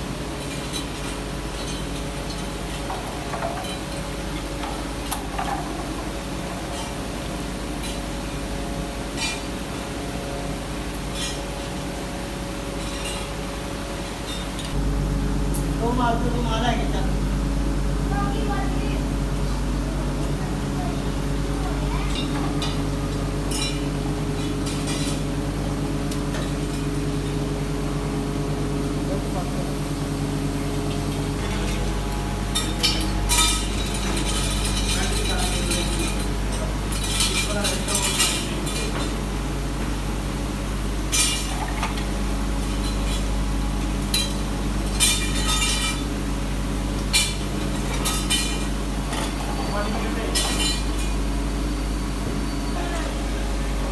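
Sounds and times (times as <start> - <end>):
machinery humming: 0.0 - 53.9.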